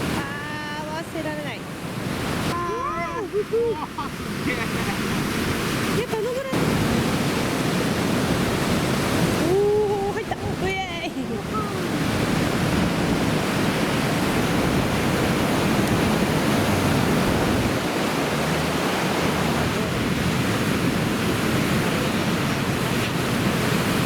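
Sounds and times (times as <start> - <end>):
heavy ocean surf: 0.0 - 24.0.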